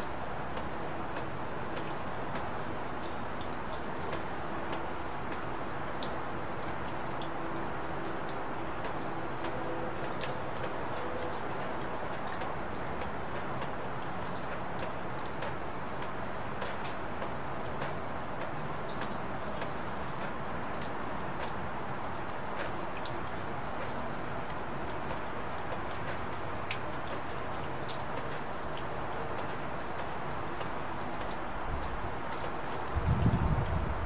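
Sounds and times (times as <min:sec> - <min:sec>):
raindrops tapping: 0:00.0 - 0:34.0
steady rain: 0:00.0 - 0:34.0.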